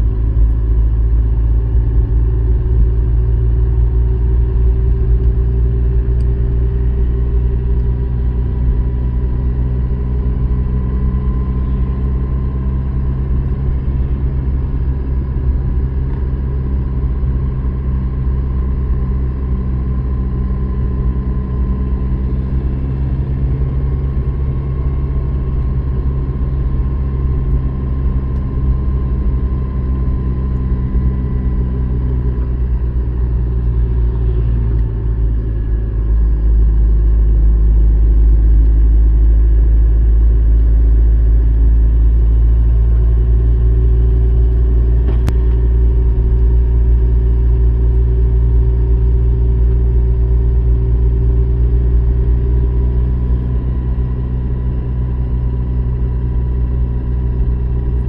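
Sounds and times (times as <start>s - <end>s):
car engine and road noise rumble: 0.0s - 58.0s.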